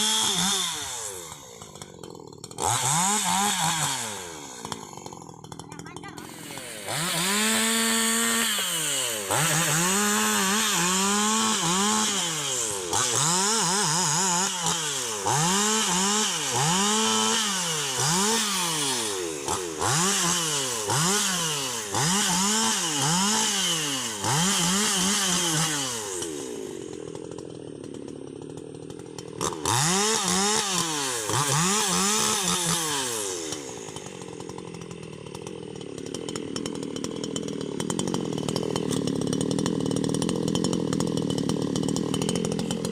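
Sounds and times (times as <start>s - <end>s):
chainsaw revving and idling: 0.0s - 42.9s.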